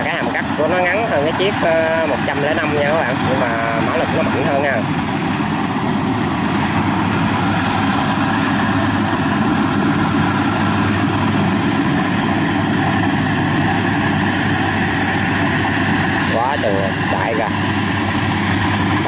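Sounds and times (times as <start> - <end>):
combine harvester engine drone: 0.0 - 19.0
harvester machinery working: 0.0 - 19.0.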